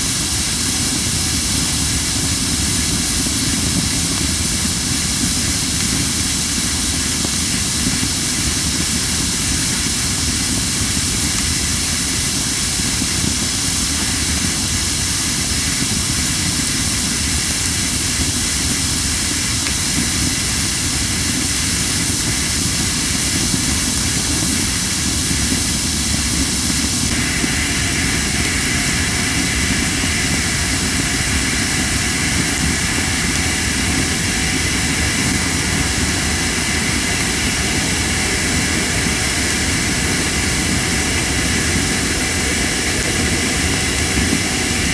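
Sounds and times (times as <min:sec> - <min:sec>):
campfire wood hissing: 0:00.0 - 0:44.9
fire crackling: 0:00.0 - 0:44.9.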